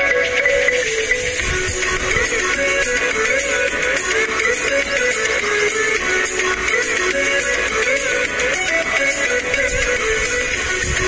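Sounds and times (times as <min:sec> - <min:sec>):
plucked guitar-like background music: 0:00.0 - 0:11.0.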